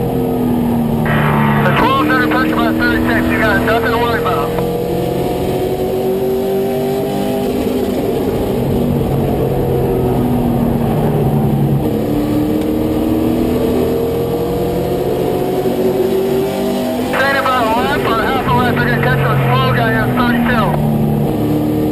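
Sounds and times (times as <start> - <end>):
truck engine racing: 0.0 - 21.9.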